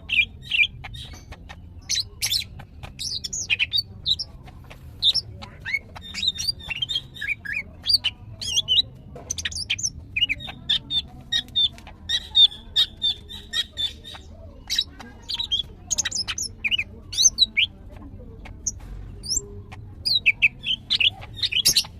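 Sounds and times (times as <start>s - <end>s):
bird chirping and trilling: 0.0s - 21.9s.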